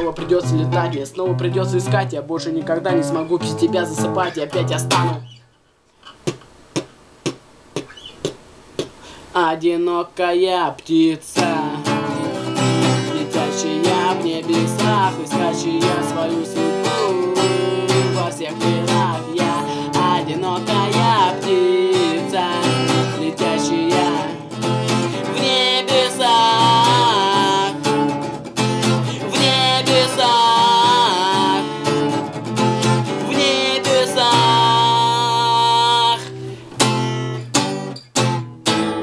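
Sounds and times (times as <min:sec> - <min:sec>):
man singing: 0:00.0 - 0:05.3, 0:09.3 - 0:27.9, 0:28.8 - 0:36.4
strummed acoustic guitar: 0:00.0 - 0:06.4, 0:10.9 - 0:39.0.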